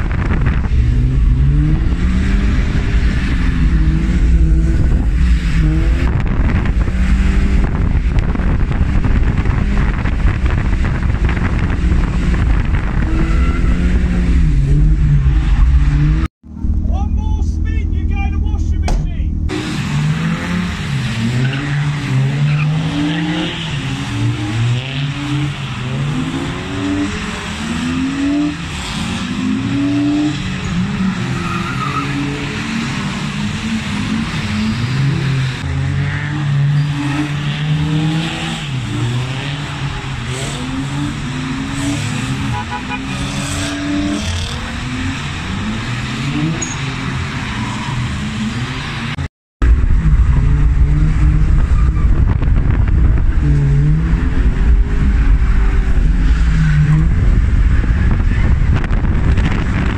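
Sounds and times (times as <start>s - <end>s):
tyres skidding: 0.0s - 49.2s
car engines revving: 0.0s - 59.9s.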